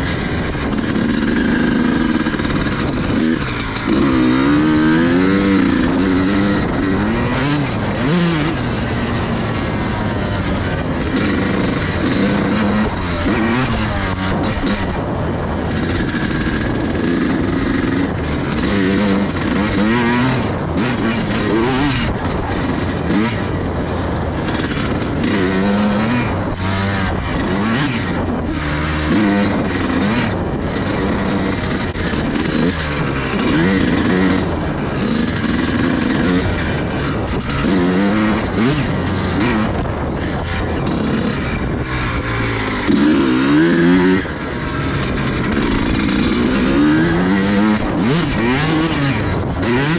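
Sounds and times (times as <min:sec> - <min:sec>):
pit bike engine revving: 0:00.0 - 0:49.9.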